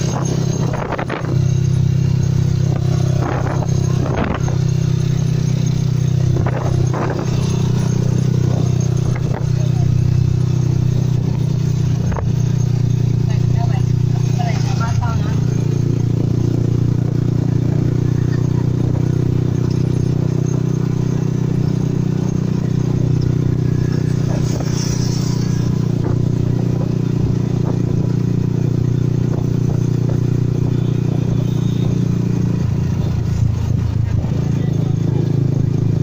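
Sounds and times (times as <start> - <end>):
cab rattling: 0.0 - 36.0
motorcycle engine running: 0.0 - 36.0.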